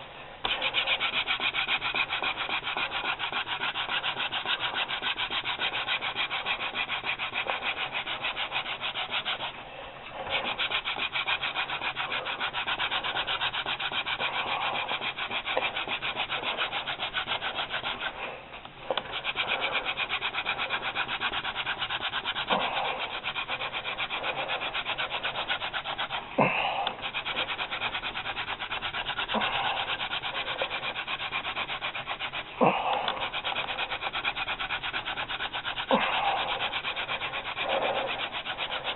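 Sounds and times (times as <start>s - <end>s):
wooden spindle rubbing on board: 0.0s - 38.9s.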